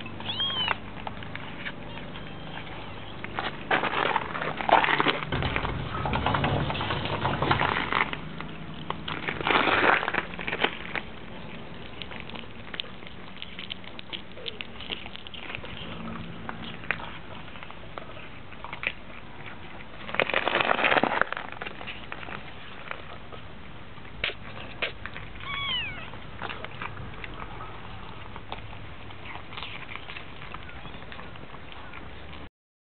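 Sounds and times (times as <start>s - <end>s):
kittens chewing and licking: 0.0s - 32.5s.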